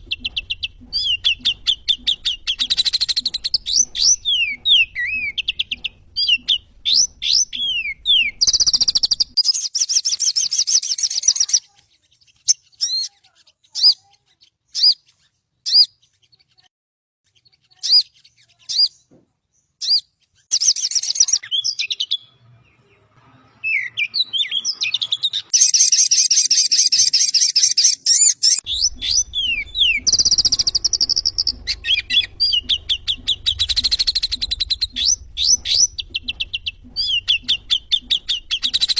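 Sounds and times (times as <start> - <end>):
songbird singing: 0.0 - 16.6, 17.3 - 38.9.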